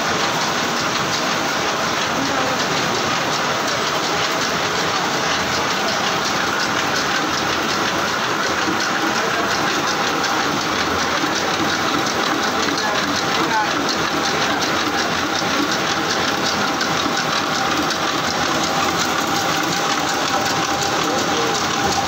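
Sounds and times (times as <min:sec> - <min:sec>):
reeling machine clattering: 0:00.0 - 0:22.0
fine rapid ticks: 0:00.1 - 0:22.0.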